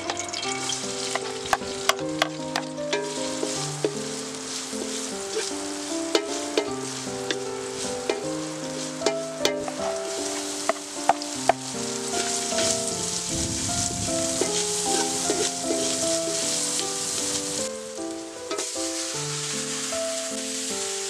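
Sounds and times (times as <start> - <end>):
wooden spatula scraping: 0.0 - 17.6, 18.5 - 21.0
food sizzling in a wok: 0.0 - 21.0.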